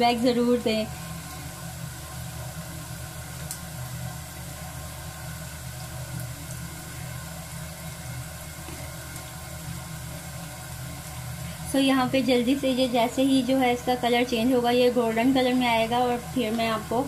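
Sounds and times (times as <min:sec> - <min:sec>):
meat deep-frying in oil: 0:00.0 - 0:17.0.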